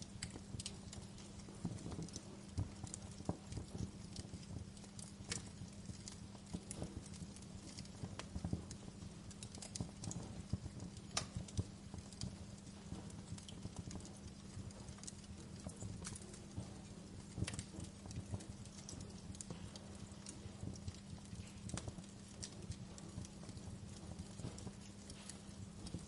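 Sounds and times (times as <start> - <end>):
fire crackling: 0.0 - 26.0
low rumble of burning flames: 0.0 - 26.0.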